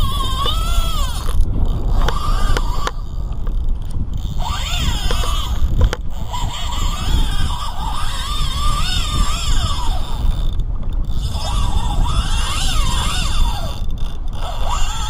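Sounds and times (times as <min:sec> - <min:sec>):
fishing reel drag whining: 0:00.0 - 0:15.0
low rumble: 0:00.0 - 0:15.0.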